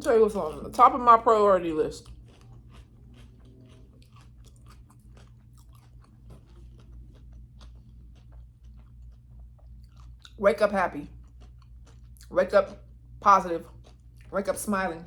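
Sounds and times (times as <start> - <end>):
person chewing and crunching food: 0.0 - 15.0
steady low hum: 0.0 - 15.0.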